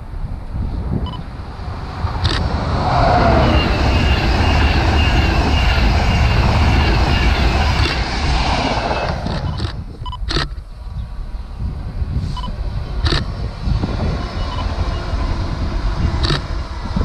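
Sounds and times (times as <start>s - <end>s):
rush of air: 0.0s - 17.0s
train wheels rumbling on rail: 0.0s - 17.0s.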